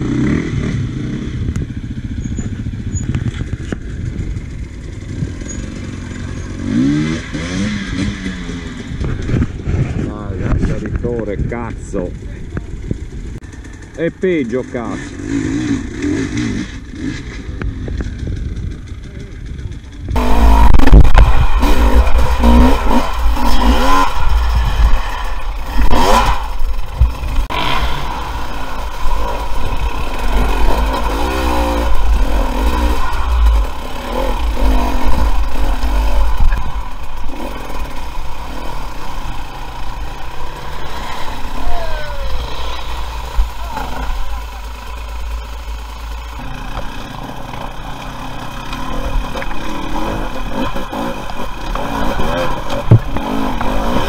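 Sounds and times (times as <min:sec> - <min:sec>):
dirt bike engine revving: 0:00.0 - 0:10.9, 0:11.8 - 0:54.0
dirt bike engines idling: 0:00.0 - 0:54.0.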